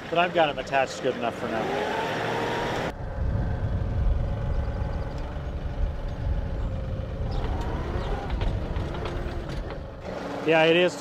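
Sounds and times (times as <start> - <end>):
diesel tractor engine rumbling: 0.0 - 11.0
rising engine whine: 0.5 - 10.8.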